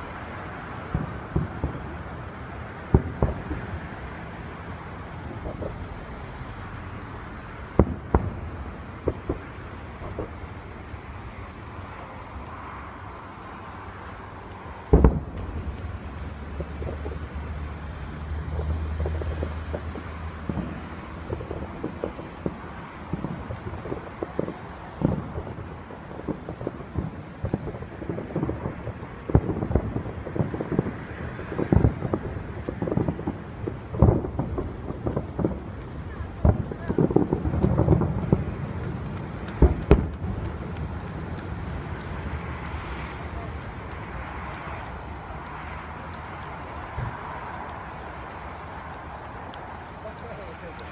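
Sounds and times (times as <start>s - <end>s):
distant fireworks bangs: 0.0s - 50.9s
road traffic hiss: 0.0s - 50.9s
wind: 0.0s - 50.9s.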